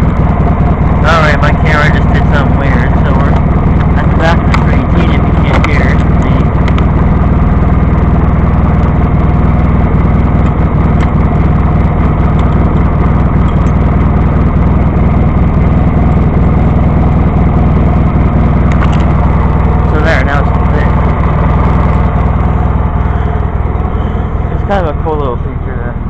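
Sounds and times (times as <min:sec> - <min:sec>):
lawn tractor engine droning: 0:00.0 - 0:26.0.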